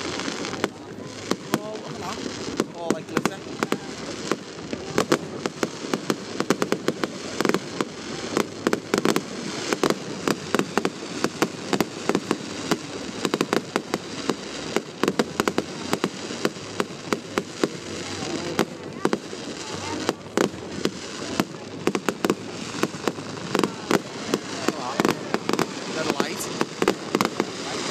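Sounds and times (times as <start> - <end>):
crackling hiss: 0.0 - 27.9
fireworks bangs and crackles: 0.0 - 27.9.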